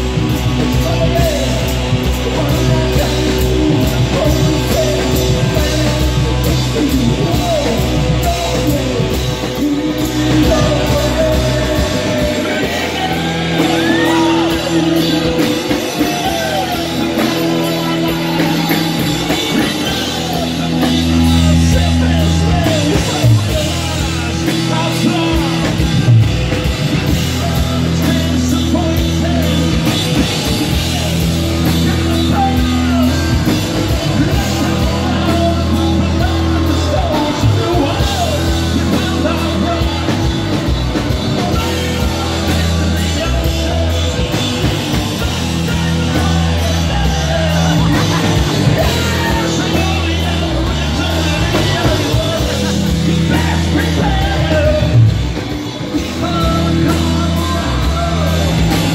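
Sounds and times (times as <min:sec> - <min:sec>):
man singing: 0:00.0 - 0:58.9
rock band playing: 0:00.0 - 0:58.9.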